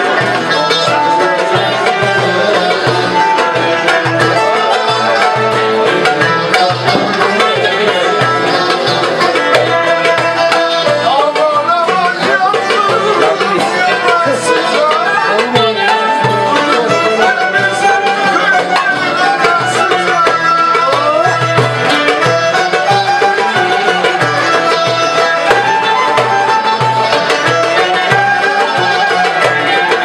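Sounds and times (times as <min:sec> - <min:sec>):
hand drum rhythm: 0:00.0 - 0:30.0
plucked string melody: 0:00.0 - 0:30.0.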